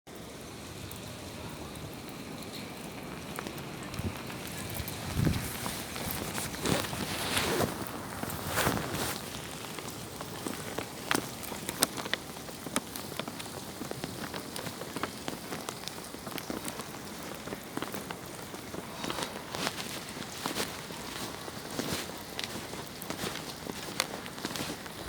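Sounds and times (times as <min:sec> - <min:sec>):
steady rain with drop hits: 0:00.1 - 0:25.0.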